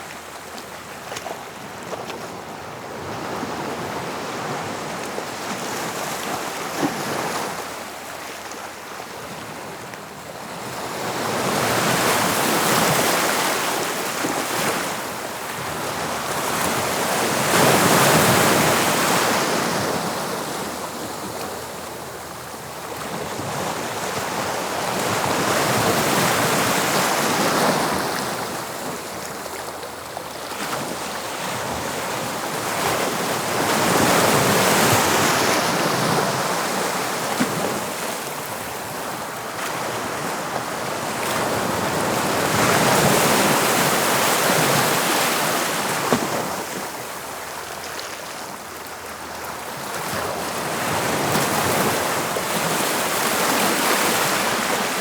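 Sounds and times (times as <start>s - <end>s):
sea waves breaking on shore: 10.4s - 55.0s.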